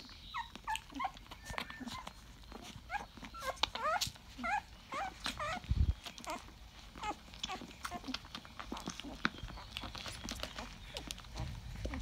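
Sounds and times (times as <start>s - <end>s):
puppies squeaking and whimpering: 0.0s - 12.0s.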